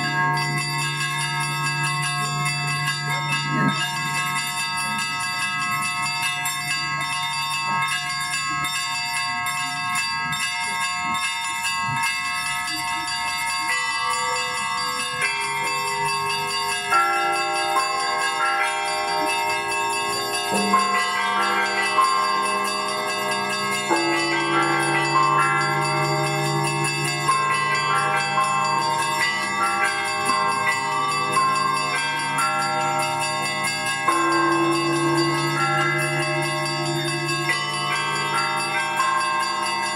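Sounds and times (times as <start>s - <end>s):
deep church bells: 0.0s - 39.9s
large church bells ringing: 0.0s - 39.9s
small church bells struck rapidly: 0.0s - 39.9s.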